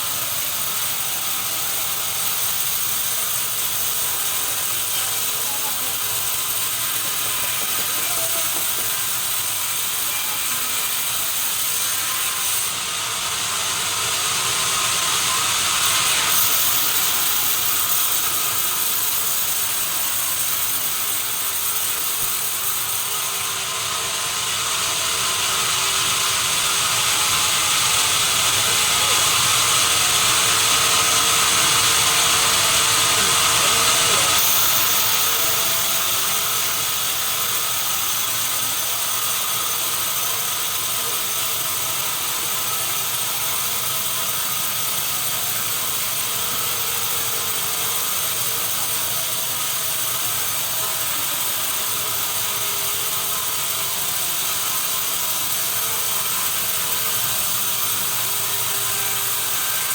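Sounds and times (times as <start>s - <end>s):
saw cutting timber: 0.0s - 59.9s.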